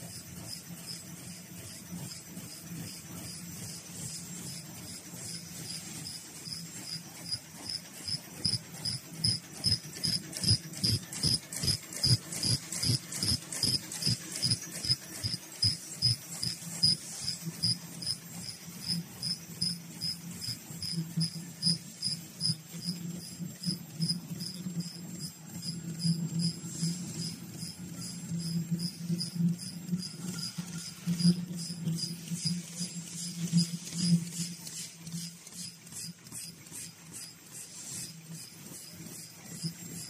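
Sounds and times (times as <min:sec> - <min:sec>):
high-pitched machine ticks: 0:00.0 - 0:40.0
steady low hum: 0:00.0 - 0:40.0.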